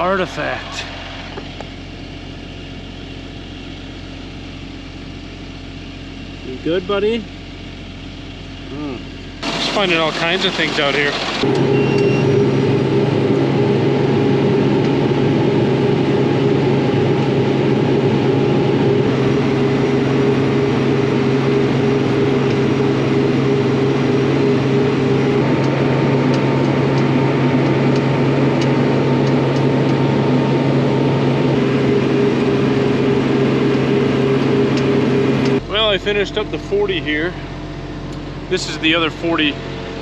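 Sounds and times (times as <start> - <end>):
engine humming steadily: 0.0 - 40.0.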